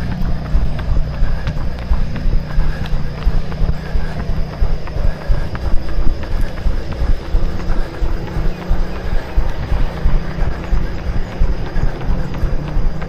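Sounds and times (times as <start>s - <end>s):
running footsteps: 0.0s - 13.0s.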